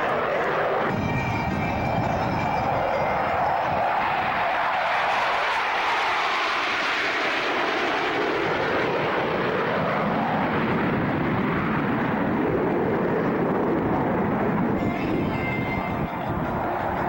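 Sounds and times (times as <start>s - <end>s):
airplane flying past: 0.0s - 17.0s.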